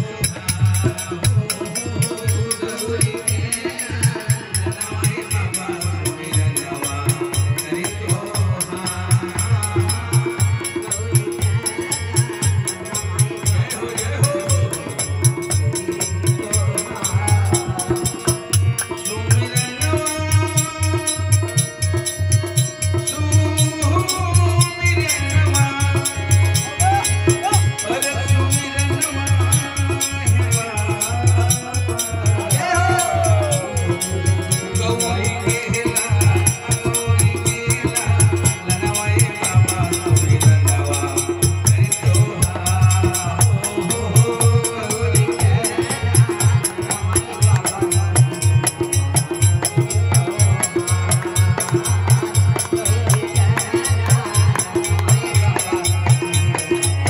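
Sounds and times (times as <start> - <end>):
jingling rattle percussion: 0.0 - 57.0
man singing: 0.0 - 57.0.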